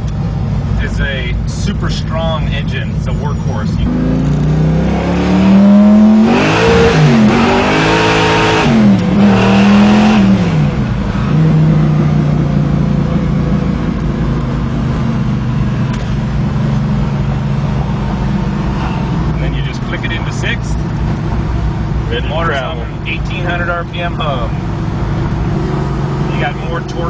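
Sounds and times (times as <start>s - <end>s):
car engine accelerating through gears: 3.0s - 27.0s.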